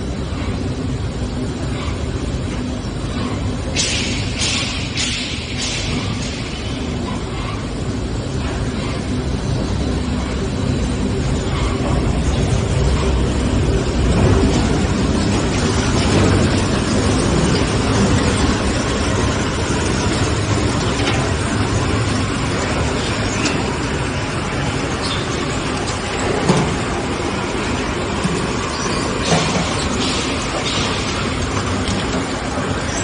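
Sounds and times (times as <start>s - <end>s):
heavy industrial machinery rumbling: 0.0s - 33.0s.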